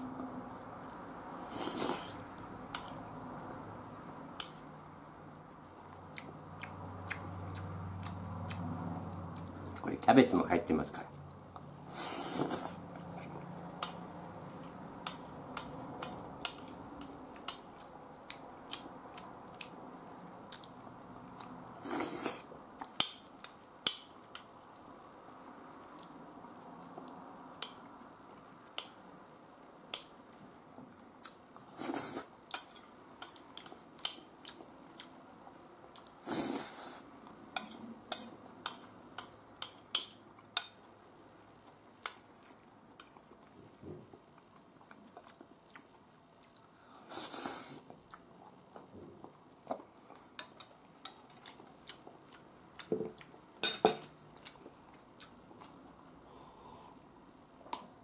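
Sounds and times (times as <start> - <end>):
man chewing food: 0.0 - 9.9, 11.2 - 58.0.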